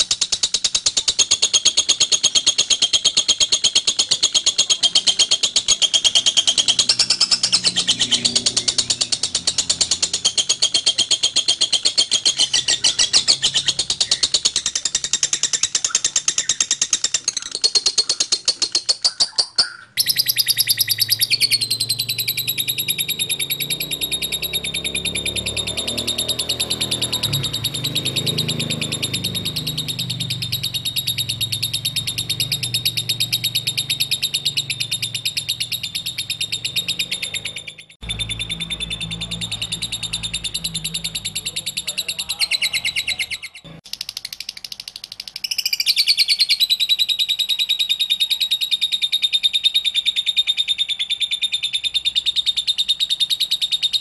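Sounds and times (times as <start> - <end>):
lovebirds chattering trill: 0.0 - 43.8.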